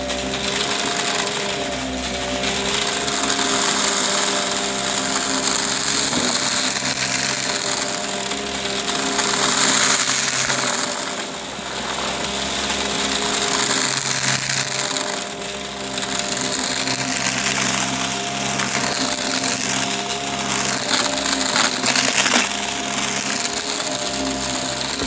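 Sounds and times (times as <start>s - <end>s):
debris crackling and rattling: 0.0s - 25.0s
vacuum cleaner motor hum: 0.0s - 25.0s.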